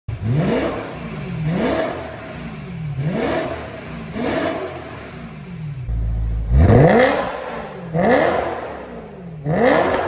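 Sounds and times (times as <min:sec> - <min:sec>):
car engine revving: 0:00.1 - 0:10.0.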